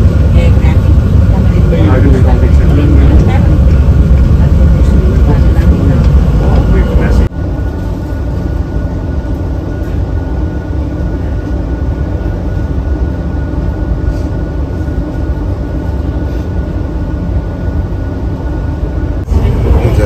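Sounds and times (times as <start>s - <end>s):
constant thin whine: 0.0s - 20.0s
train running rumble: 0.0s - 20.0s.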